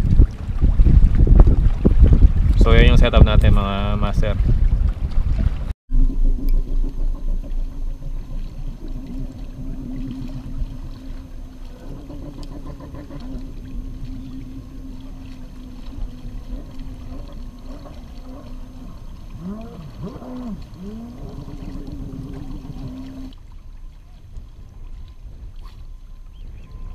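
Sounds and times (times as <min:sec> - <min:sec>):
wind buffeting microphone: 0:00.0 - 0:23.3
sea water washing against rocks: 0:00.0 - 0:23.4
steady low hum: 0:01.9 - 0:24.2.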